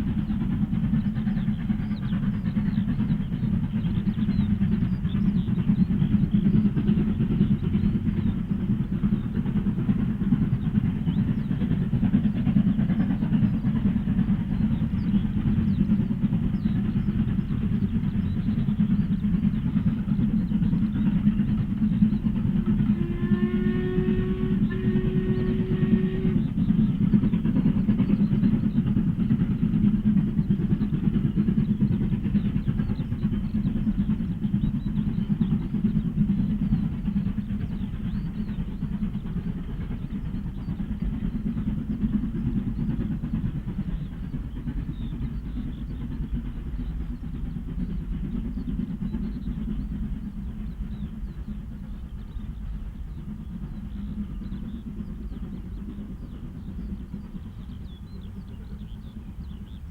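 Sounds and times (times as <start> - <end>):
steam train running past: 0.0 - 59.9.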